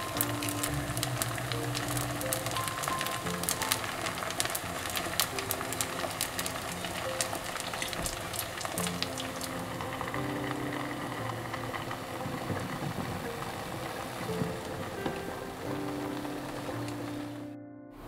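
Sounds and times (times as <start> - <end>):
food sizzling in oil: 0.0 - 17.3
background music with held notes: 0.0 - 18.0.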